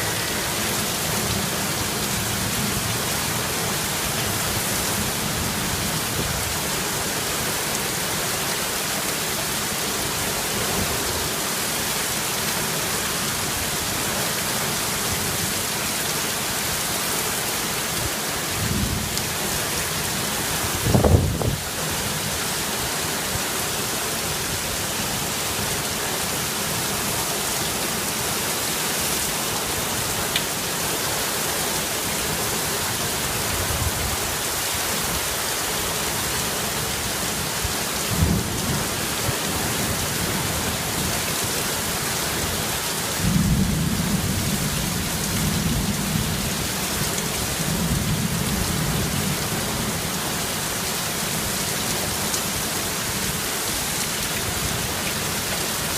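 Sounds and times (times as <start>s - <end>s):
heavy rain pattering: 0.0s - 55.9s.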